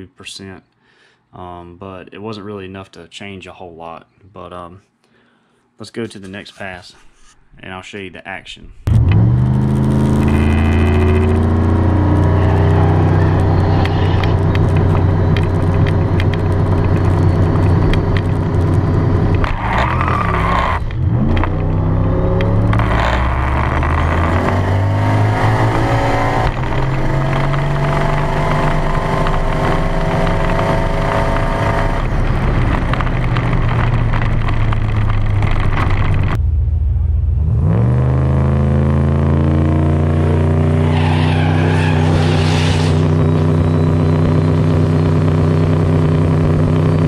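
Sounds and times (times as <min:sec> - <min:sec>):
car engine revving: 0:08.9 - 0:47.0.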